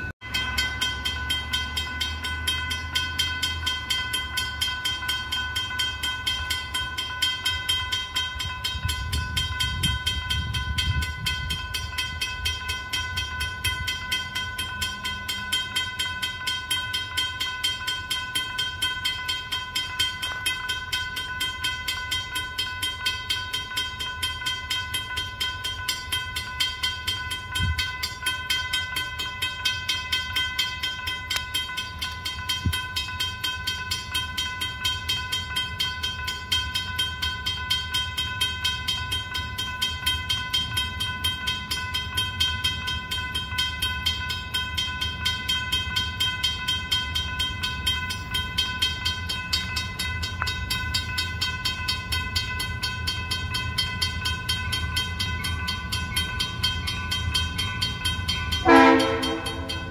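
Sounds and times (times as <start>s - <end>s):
railroad crossing bell ringing: 0.0s - 59.9s.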